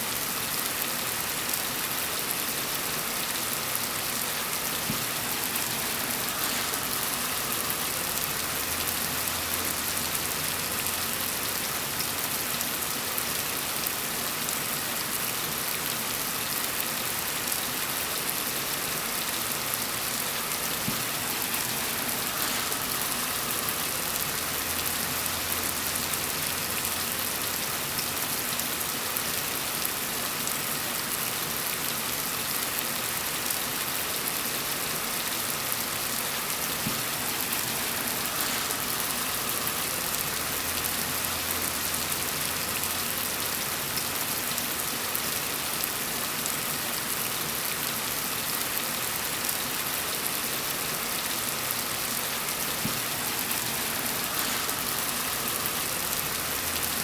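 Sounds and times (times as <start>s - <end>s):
steady rain falling: 0.0s - 57.0s
raindrops pattering on a surface: 0.1s - 57.0s.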